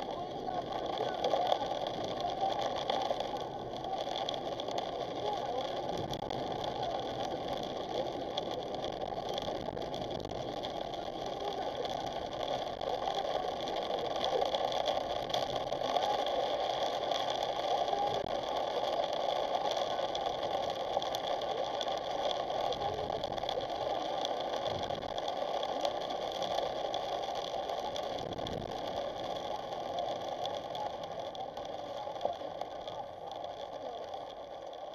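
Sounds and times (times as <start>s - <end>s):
rain on windshield: 0.0s - 34.9s
tyre and road noise: 0.0s - 34.9s.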